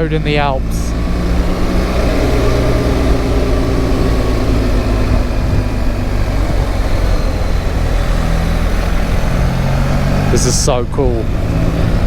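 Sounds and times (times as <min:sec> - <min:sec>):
motorcycle engine running: 0:00.0 - 0:12.0
road noise: 0:00.0 - 0:12.0
wind noise: 0:00.0 - 0:12.0.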